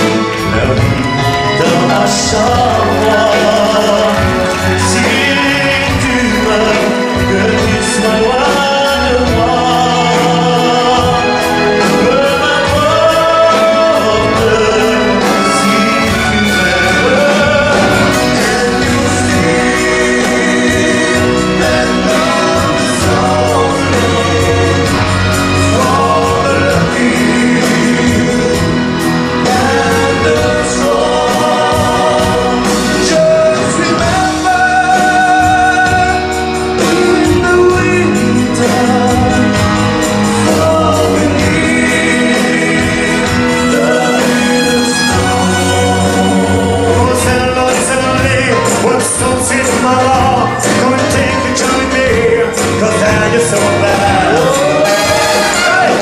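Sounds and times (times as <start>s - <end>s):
live band playing: 0.0s - 56.0s
men singing together: 0.0s - 56.0s.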